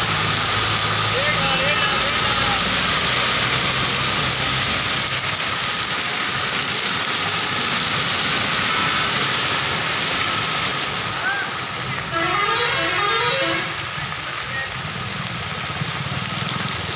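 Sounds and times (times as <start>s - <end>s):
bus engine humming: 0.0s - 14.6s
wheels splashing through water: 0.0s - 16.9s.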